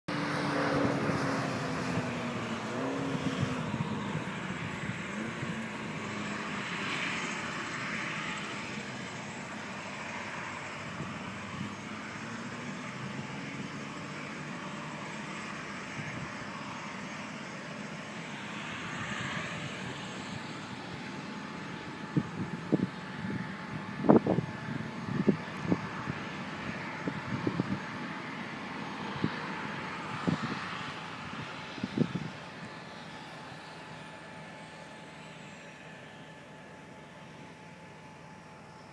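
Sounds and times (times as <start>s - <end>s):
sports car engine: 0.1s - 38.9s.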